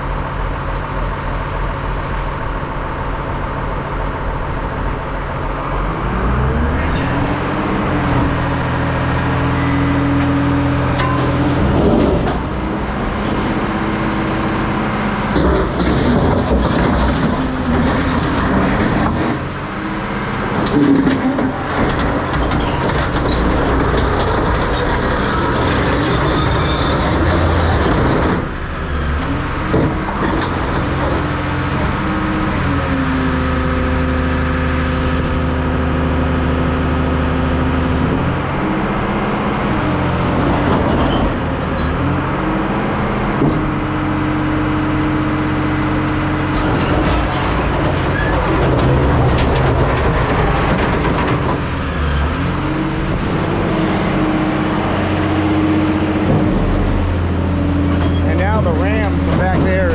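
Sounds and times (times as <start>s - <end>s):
hydraulic shear engine drone: 0.0s - 59.9s.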